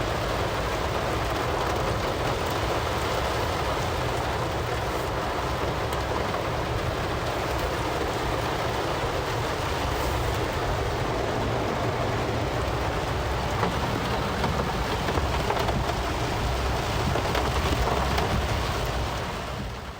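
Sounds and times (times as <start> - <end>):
heavy rain on car roof: 0.0 - 19.9.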